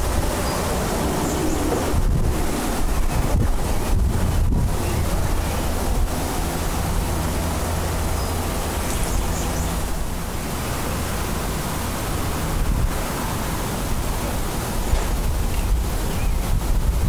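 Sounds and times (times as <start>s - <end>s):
jet engines passing overhead: 0.0s - 17.0s.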